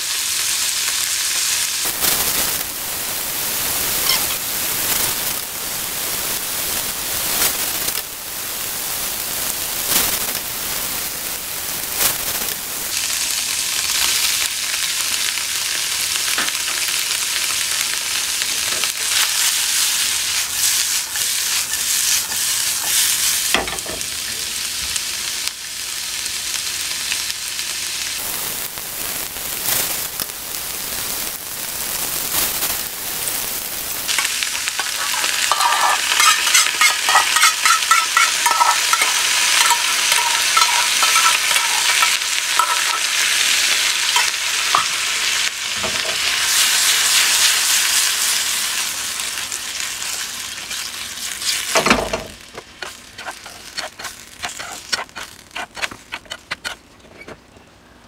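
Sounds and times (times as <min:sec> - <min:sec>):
tofu sizzling in a frying pan: 0:00.0 - 0:56.2.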